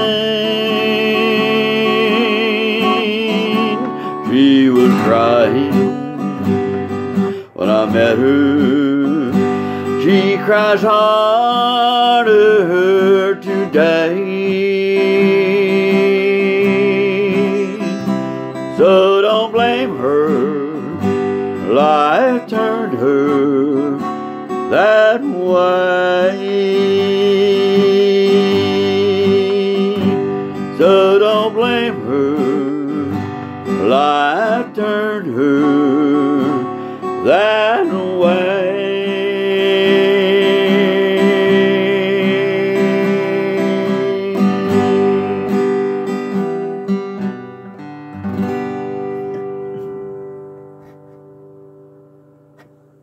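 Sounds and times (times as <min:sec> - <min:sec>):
man singing with vibrato: 0:00.0 - 0:47.6
acoustic guitar playing: 0:00.0 - 0:53.0.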